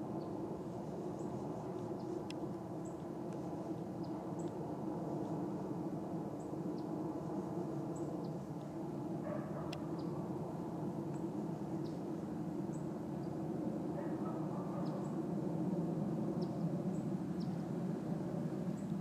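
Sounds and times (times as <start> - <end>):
distant jet airliner rumble: 0.0 - 19.0.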